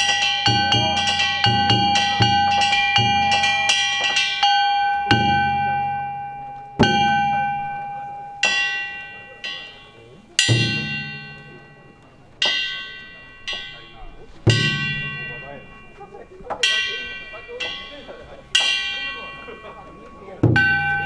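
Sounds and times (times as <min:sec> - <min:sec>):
drum strokes: 0:00.0 - 0:21.0
ringing hand gongs: 0:00.0 - 0:21.0.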